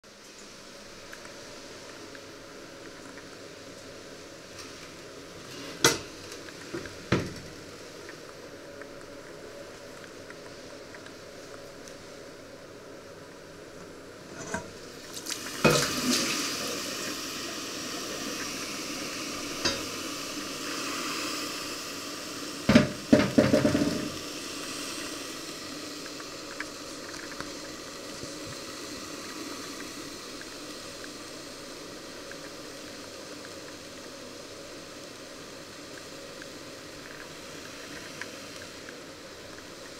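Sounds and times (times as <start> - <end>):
simmering water hiss: 0.0 - 39.9.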